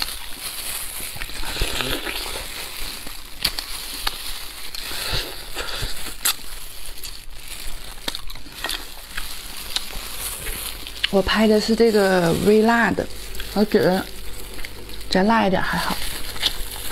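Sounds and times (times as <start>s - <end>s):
person chewing and sucking meat: 0.0s - 16.9s.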